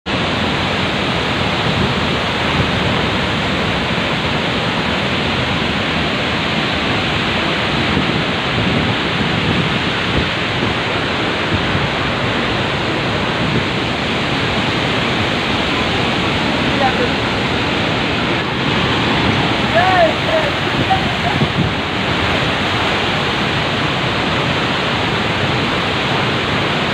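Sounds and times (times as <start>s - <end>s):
waterfall rushing: 0.1s - 26.9s.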